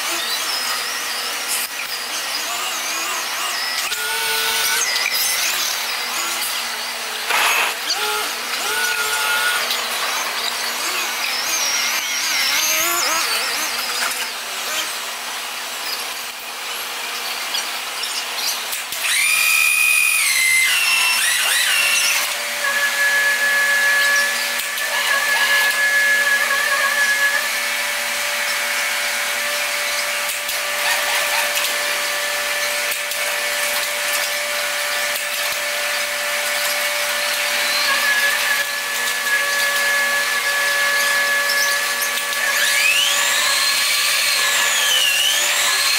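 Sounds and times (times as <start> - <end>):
high whirring of power tools: 0.0 - 45.9.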